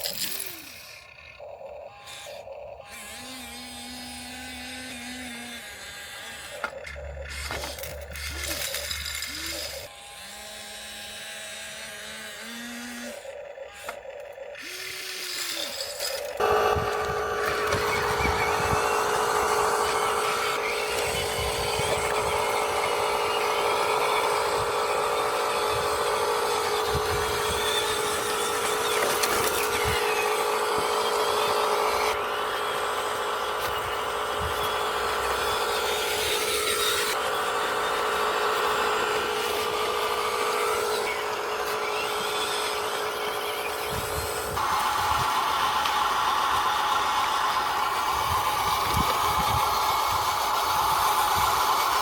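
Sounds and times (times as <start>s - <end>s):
electric motors whining: 0.0s - 52.0s.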